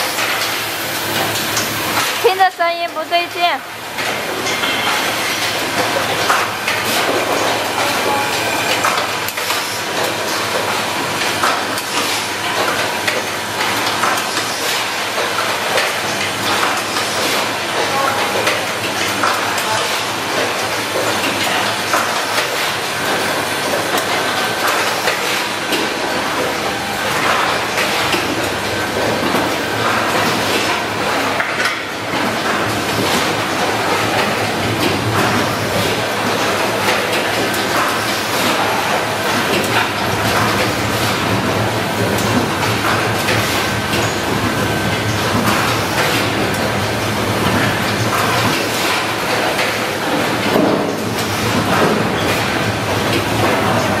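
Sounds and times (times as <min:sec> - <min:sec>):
machines clattering with rapid clicks: 0:00.0 - 0:54.0.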